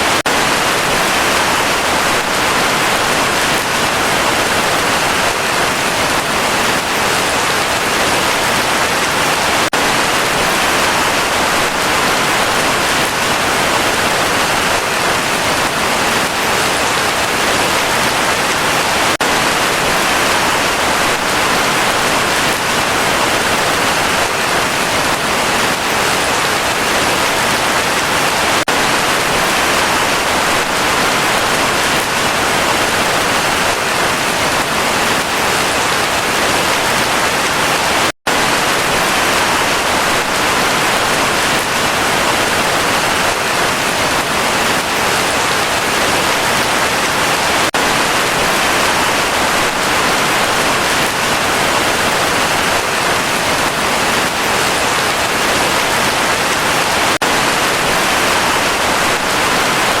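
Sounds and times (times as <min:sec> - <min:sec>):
heavy rain hissing: 0:00.0 - 1:00.0.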